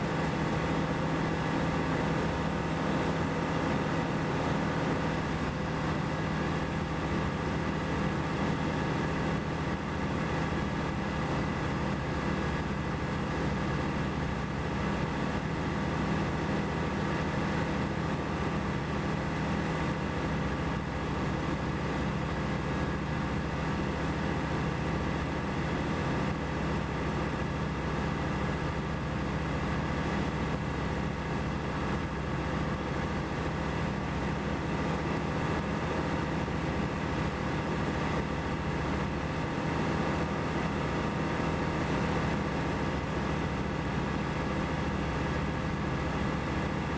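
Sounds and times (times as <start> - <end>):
light aircraft engine and propeller droning: 0.0 - 46.9.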